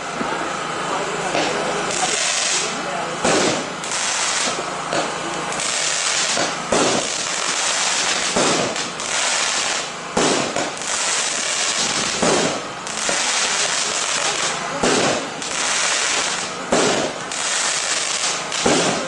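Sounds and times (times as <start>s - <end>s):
crackling hiss of fireworks: 0.0s - 19.0s
firework reports: 0.0s - 19.0s.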